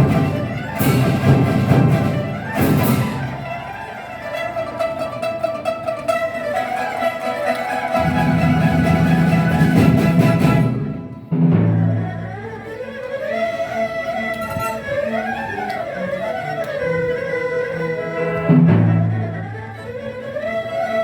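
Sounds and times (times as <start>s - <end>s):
bowed string melody: 0.0s - 21.0s.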